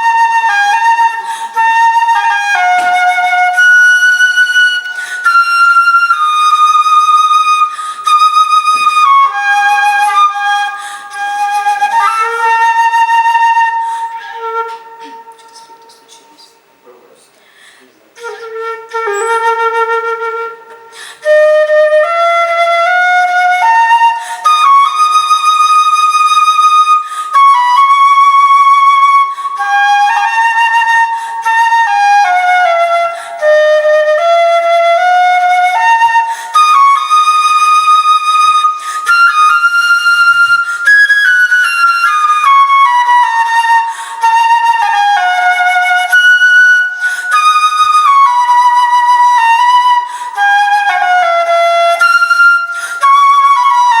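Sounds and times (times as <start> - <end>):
solo flute melody: 0.0 - 17.0, 18.2 - 54.0.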